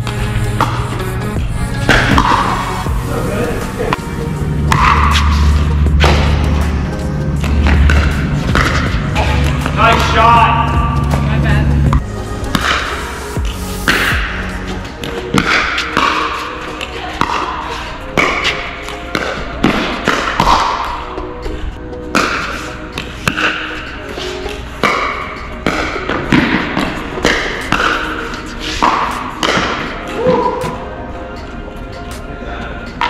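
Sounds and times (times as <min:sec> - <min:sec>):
background music: 0:00.0 - 0:33.0.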